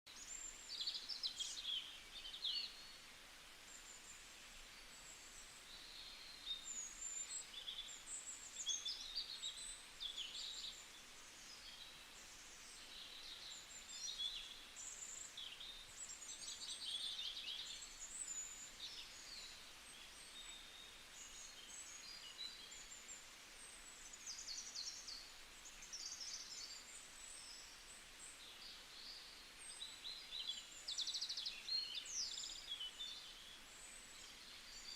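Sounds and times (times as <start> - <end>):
faint outdoor hiss: 0.1 - 34.9
songbirds chirping and trilling: 0.1 - 34.9.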